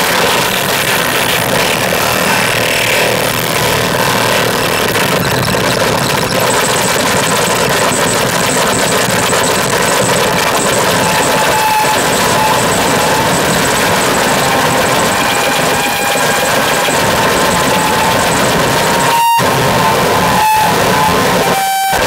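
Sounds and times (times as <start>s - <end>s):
harsh electronic noise: 0.0s - 22.0s
fluttering high whine: 0.1s - 22.0s.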